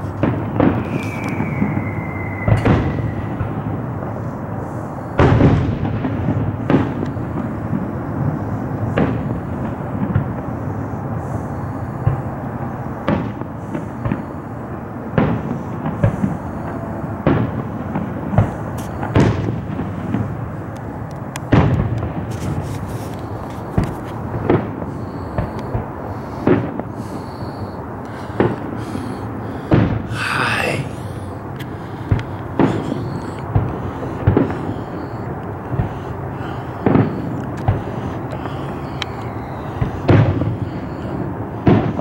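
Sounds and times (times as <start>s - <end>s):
distant fireworks booming: 0.0s - 42.0s.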